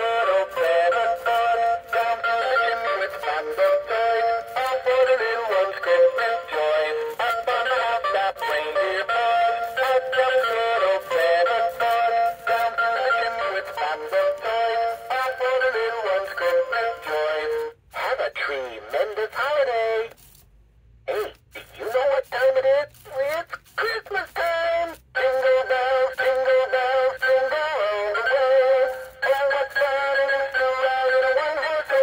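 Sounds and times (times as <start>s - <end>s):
toy singing through speaker: 0.0s - 20.1s, 21.1s - 32.0s.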